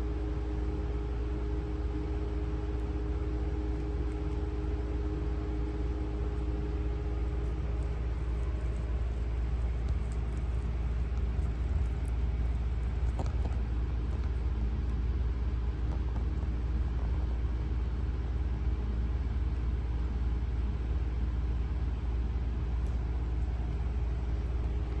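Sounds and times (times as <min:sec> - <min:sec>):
low background rumble: 0:00.0 - 0:25.0.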